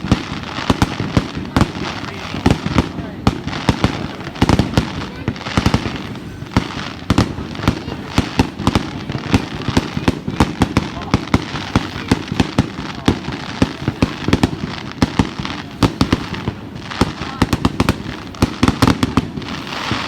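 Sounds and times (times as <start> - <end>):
crackling hiss: 0.0 - 20.0
fireworks banging and popping: 0.0 - 20.0.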